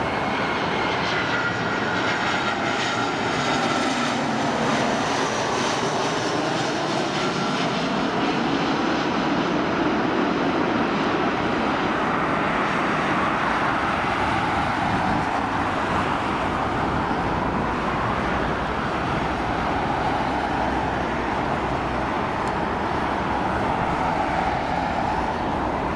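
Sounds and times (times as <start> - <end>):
airliner jet engines landing: 0.0 - 25.9.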